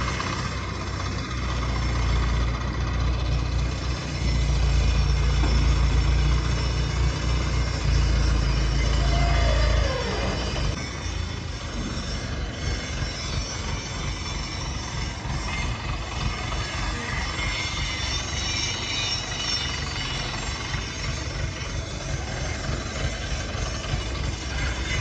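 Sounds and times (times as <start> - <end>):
machine motor drone: 0.0 - 25.0.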